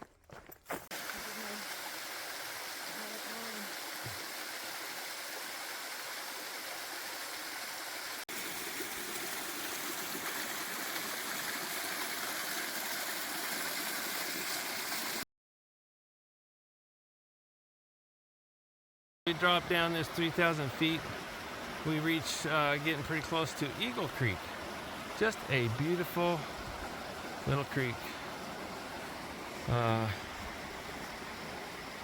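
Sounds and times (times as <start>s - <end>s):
mountain creek rushing: 0.9s - 15.2s, 19.3s - 32.0s.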